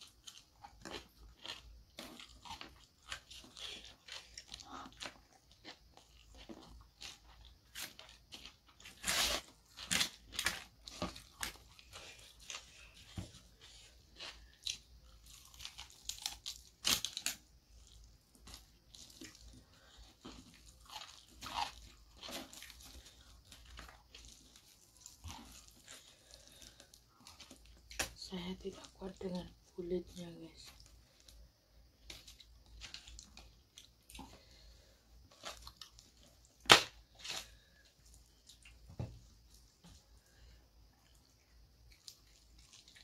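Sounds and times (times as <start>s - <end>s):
chewing crispy fried chicken: 0.0s - 43.0s.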